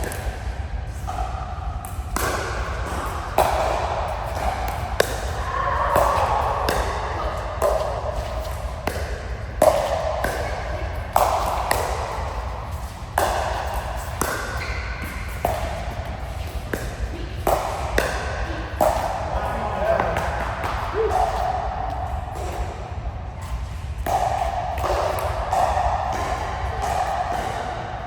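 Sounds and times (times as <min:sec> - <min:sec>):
racket striking ball: 0:00.0 - 0:28.0.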